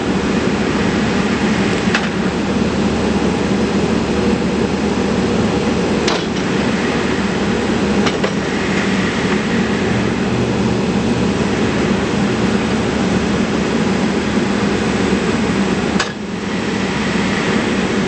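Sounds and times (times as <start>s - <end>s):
backhoe diesel engine running: 0.0s - 18.0s.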